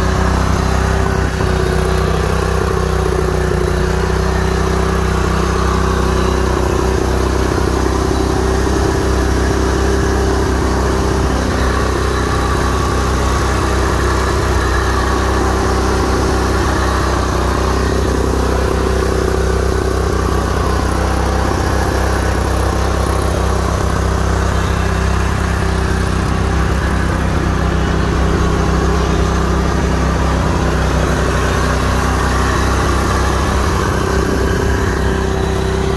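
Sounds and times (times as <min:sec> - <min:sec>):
lawn mower engine running: 0:00.0 - 0:35.9.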